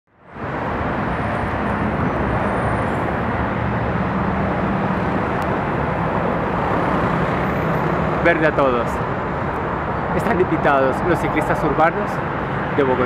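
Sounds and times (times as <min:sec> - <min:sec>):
cars and buses on busy road: 0:00.1 - 0:13.0.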